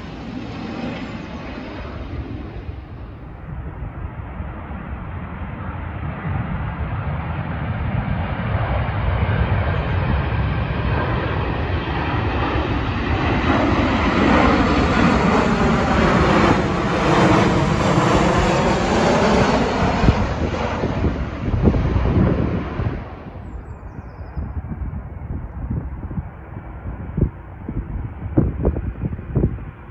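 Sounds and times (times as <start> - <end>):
jet airliner passing overhead: 0.0 - 29.9
wind rumbling on microphone: 0.0 - 29.9.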